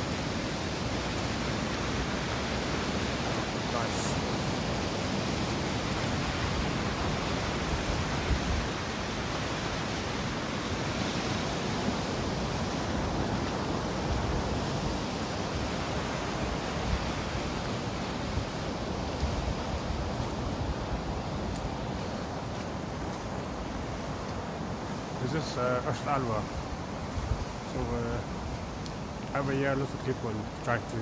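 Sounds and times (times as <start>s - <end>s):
wind blowing across microphone: 0.0s - 31.0s.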